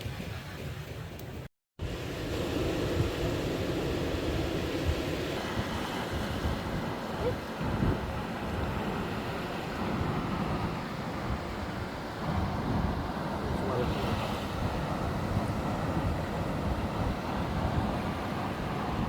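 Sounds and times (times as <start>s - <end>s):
wind buffeting microphone: 0.0s - 19.0s
sea waves washing: 1.8s - 19.0s.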